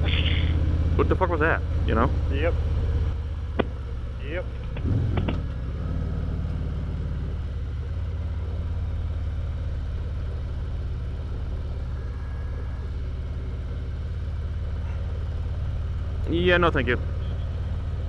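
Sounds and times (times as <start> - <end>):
motorcycle engine rumble: 0.0 - 18.0
road and wind noise: 0.0 - 18.0.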